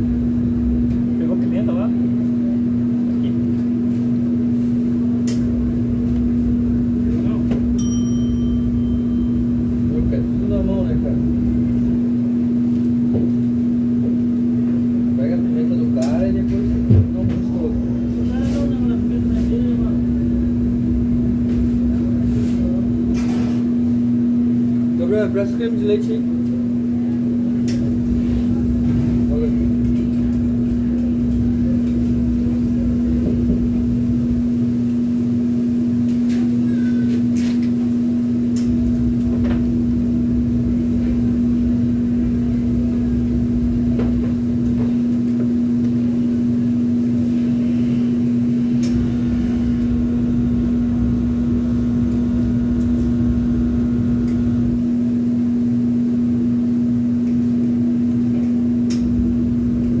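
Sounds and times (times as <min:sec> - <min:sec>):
kitchen machinery drone: 0:00.0 - 1:00.0.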